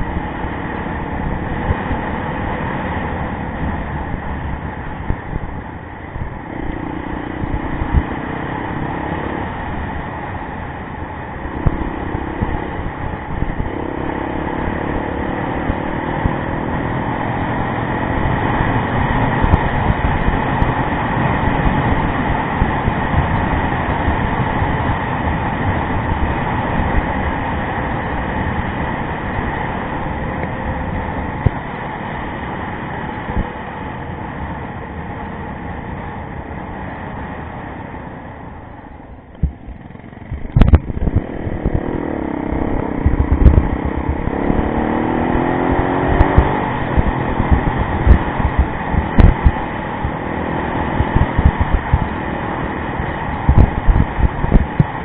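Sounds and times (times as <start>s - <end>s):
motorcycle engine revving: 0.0s - 55.0s
wind and riding noise: 0.0s - 55.0s.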